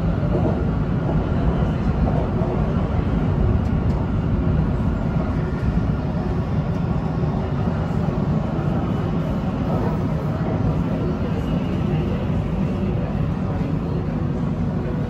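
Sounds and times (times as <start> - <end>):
train running on track: 0.0 - 15.0.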